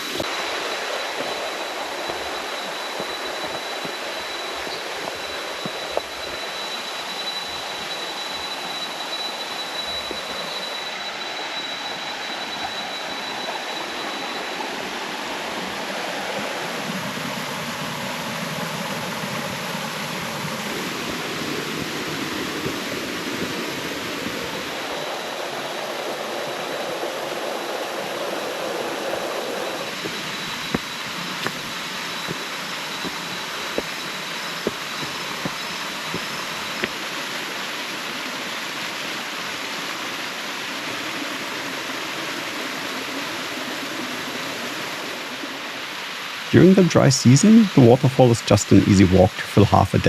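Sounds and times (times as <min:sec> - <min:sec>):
high-pitched whine: 0:00.0 - 0:50.0
waterfall rushing: 0:00.0 - 0:50.0.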